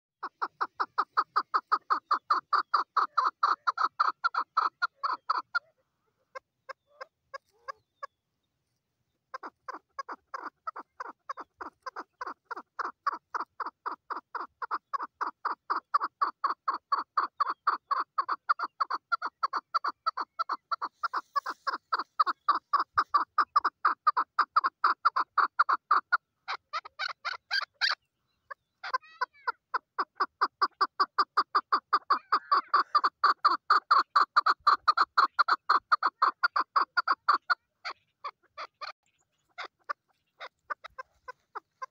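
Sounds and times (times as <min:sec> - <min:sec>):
partridge rapid clucking call: 0:00.2 - 0:08.2, 0:09.2 - 0:41.9.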